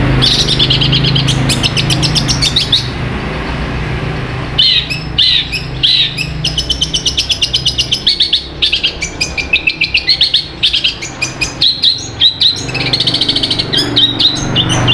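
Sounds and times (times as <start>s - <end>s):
bird chirping rapidly: 0.0s - 3.0s, 4.5s - 14.9s.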